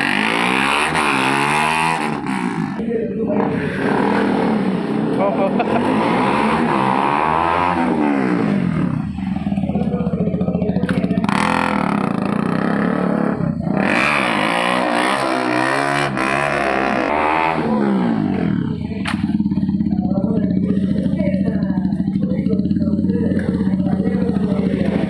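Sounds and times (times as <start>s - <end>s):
motorcycle engine revving hard: 0.0s - 25.0s.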